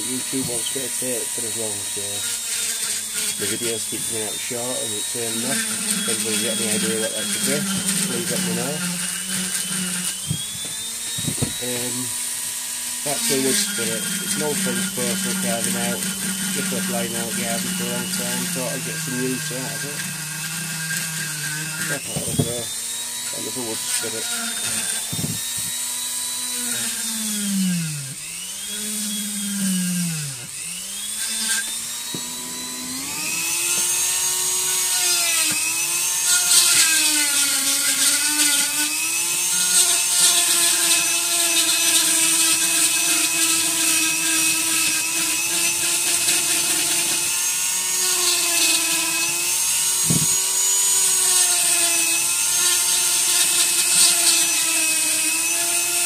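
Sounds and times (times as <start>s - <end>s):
rotary tool grinding wood: 0.0s - 56.0s.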